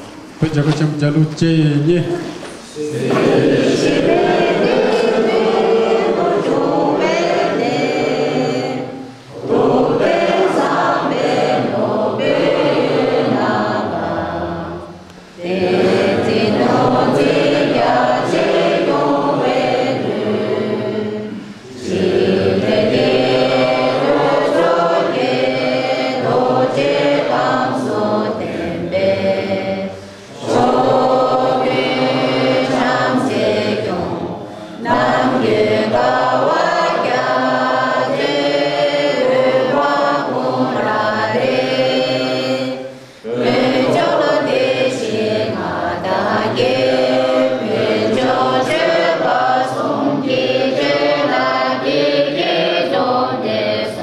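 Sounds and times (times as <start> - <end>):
crowd singing slow song: 2.0 - 54.0.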